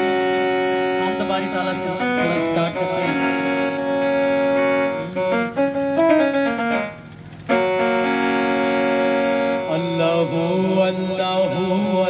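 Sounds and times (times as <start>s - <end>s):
keyboard chords and melody: 0.0s - 12.0s.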